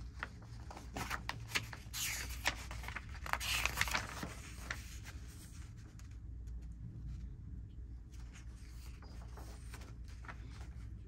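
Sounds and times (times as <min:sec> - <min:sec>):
paper rustling swishes: 0:00.0 - 0:06.6, 0:08.1 - 0:11.0
paper crackling: 0:00.0 - 0:06.7, 0:08.1 - 0:11.0.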